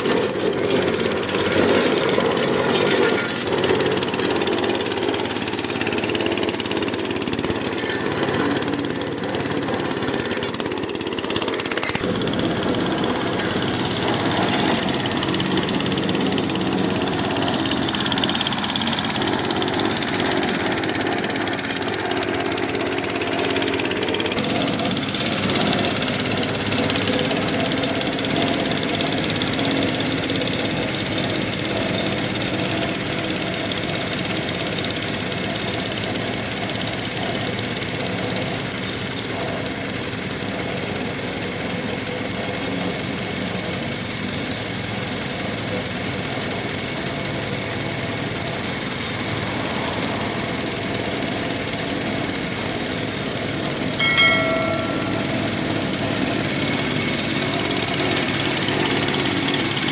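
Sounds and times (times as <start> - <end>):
vibratory roller running: 0.0 - 37.5, 46.4 - 59.9.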